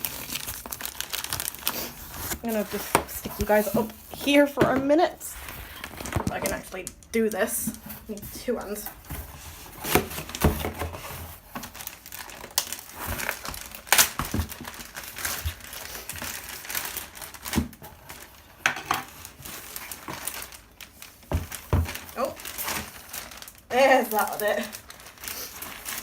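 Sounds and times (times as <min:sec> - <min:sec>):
packing paper crinkling: 0:00.0 - 0:26.0.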